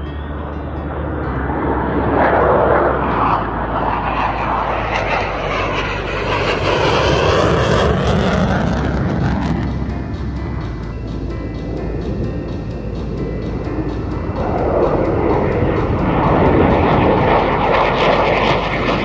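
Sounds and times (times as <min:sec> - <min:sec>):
fighter jets flying low past: 0:00.0 - 0:19.0.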